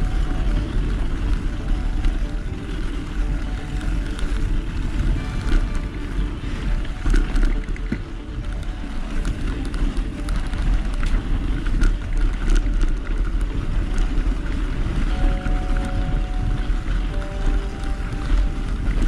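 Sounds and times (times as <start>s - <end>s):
bike rattles and knocks: 0.0s - 19.0s
bike tyres on snow: 0.0s - 19.0s
wind buffeting microphone: 0.0s - 19.0s.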